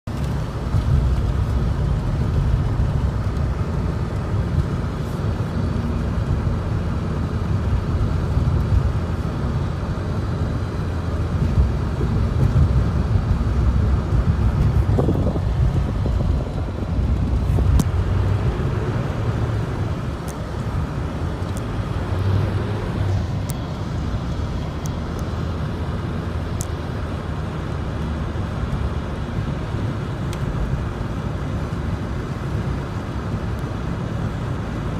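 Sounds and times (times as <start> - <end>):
tyre noise on slushy road: 0.1 - 34.9.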